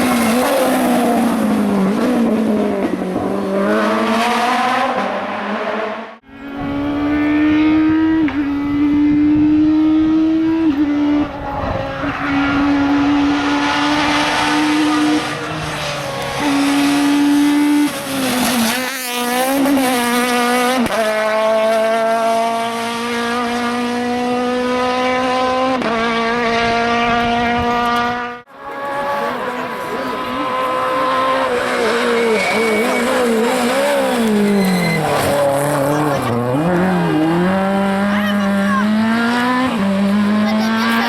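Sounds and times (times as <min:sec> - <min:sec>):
rally car engine at high revs: 0:00.0 - 0:41.0.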